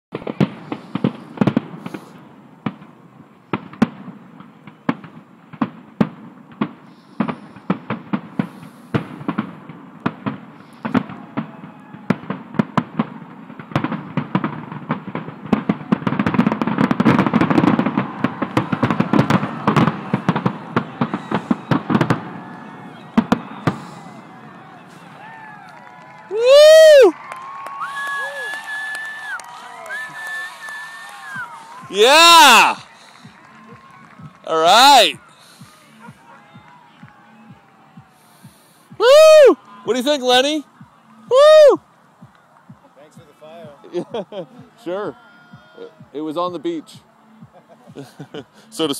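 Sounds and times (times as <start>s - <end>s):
fireworks bangs and crackles: 0.1s - 45.0s.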